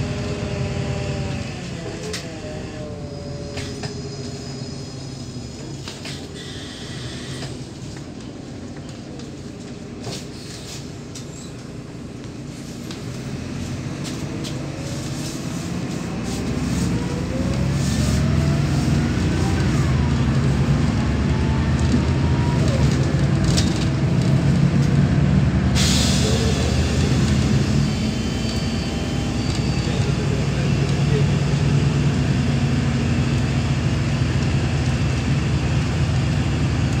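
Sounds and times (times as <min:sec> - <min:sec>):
bus diesel engine accelerating: 0:00.0 - 0:37.0.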